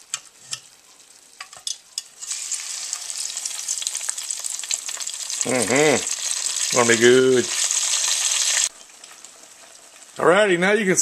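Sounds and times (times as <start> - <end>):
fries sizzling in deep fryer: 0.0 - 11.0.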